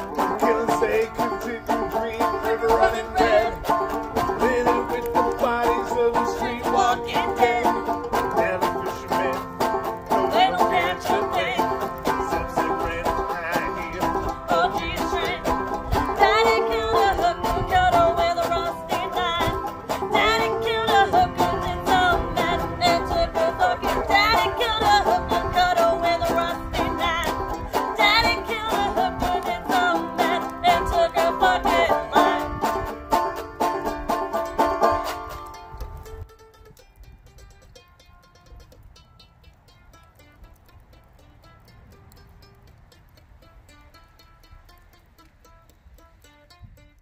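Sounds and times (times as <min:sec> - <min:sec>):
rapid banjo picking: 0:00.0 - 0:47.0
string band playing: 0:00.0 - 0:47.0.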